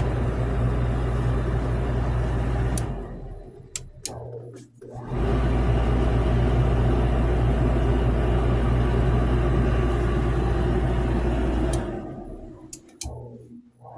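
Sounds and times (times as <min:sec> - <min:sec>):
clothes dryer humming and whirring: 0:00.0 - 0:13.9.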